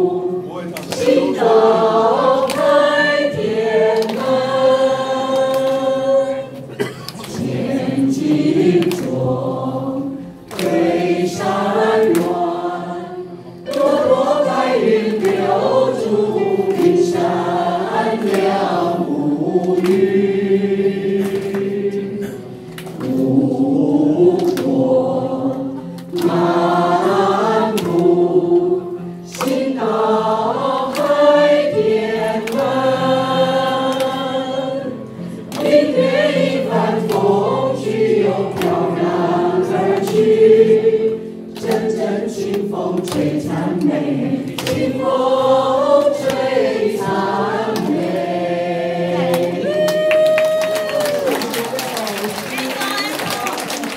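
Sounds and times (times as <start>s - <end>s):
group of people singing: 0.0s - 51.4s.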